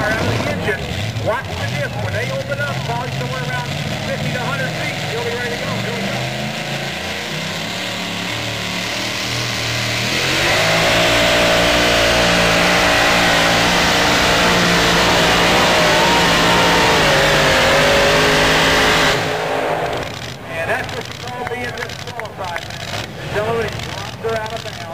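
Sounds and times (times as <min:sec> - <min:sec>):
supercharged truck engine: 0:00.0 - 0:24.9.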